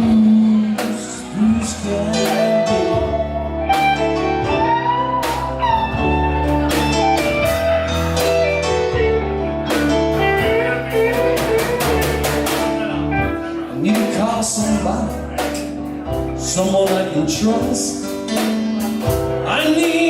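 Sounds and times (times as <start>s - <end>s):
electric guitar lead with bent notes: 0.0s - 16.4s
live blues band playing: 0.0s - 20.0s.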